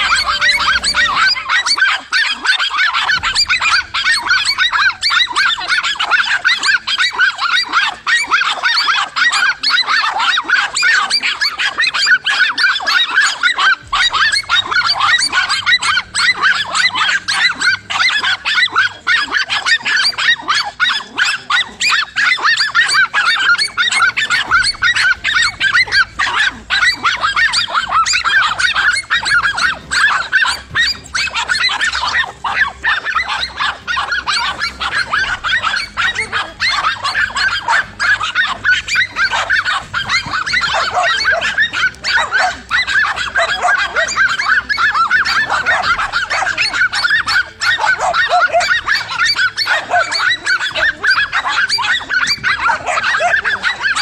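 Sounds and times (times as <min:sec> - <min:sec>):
dogs barking and yelping: 0:00.0 - 0:54.0.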